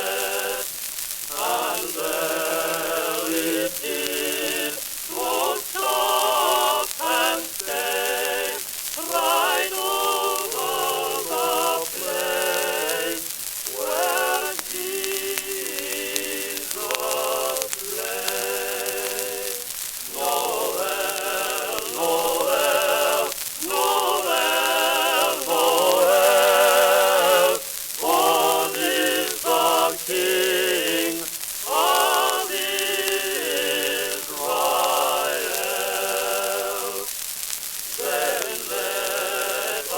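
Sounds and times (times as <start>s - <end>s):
record surface hiss and crackle: 0.0s - 39.9s
vibrato singing on old record: 0.0s - 39.9s.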